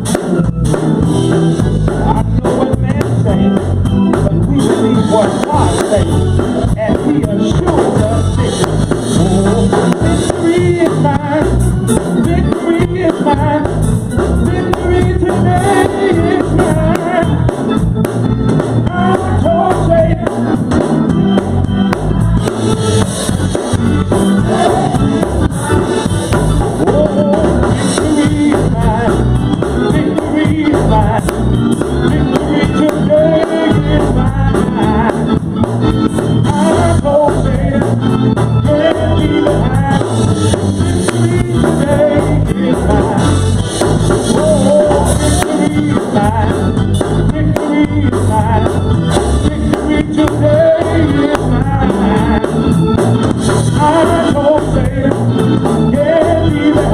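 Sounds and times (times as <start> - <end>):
live gospel band with singing: 0.0 - 56.9.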